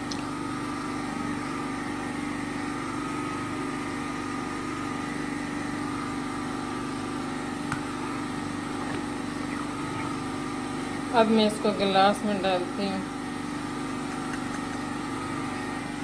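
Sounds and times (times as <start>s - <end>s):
generator engine running: 0.0s - 16.0s.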